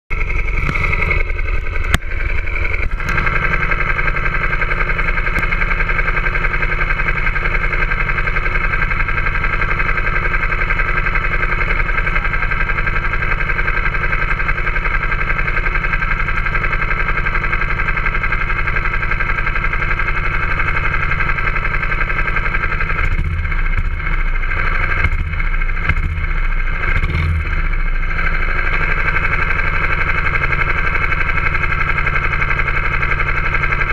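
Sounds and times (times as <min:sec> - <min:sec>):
go-kart engine idling: 0:00.1 - 0:33.9.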